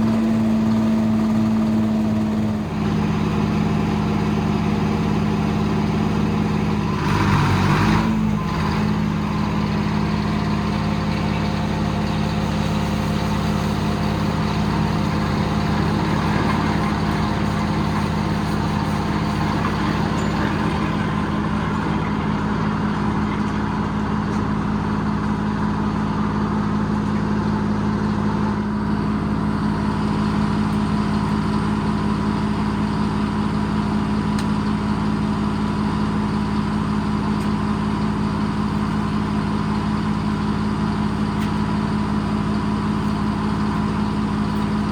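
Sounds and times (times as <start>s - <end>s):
diesel engine running sawmill: 0.0s - 44.9s.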